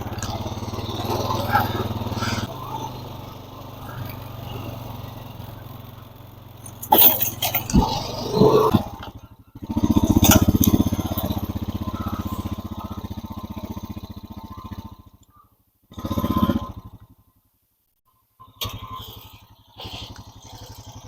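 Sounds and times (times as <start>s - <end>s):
small petrol engine running: 0.0s - 17.6s, 18.3s - 21.0s.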